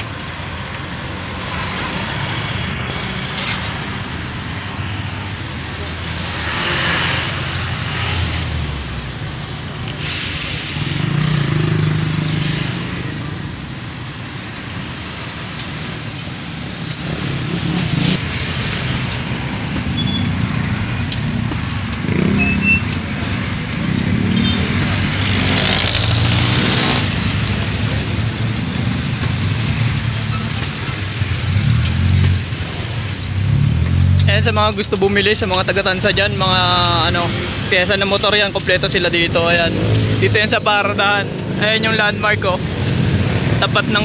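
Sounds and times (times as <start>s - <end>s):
street rumble: 0.0s - 44.0s
vehicles passing: 0.0s - 44.0s.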